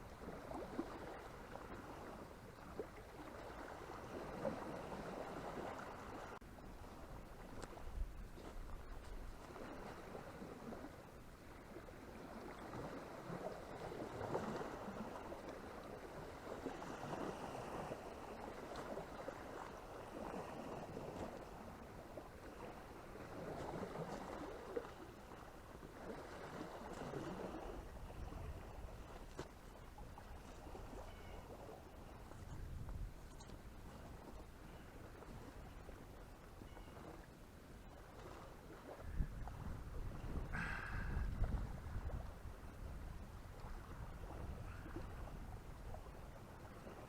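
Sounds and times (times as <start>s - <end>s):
water lapping at shore: 0.0s - 47.0s.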